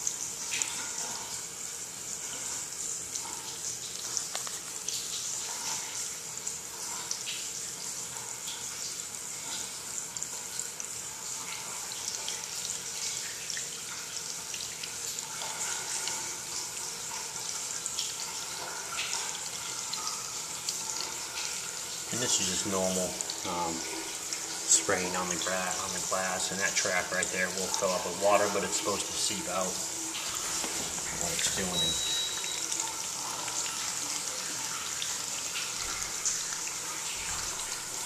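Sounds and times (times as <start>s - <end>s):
shower water hissing on glass: 0.0s - 38.0s
water splashes and drips: 0.0s - 38.0s.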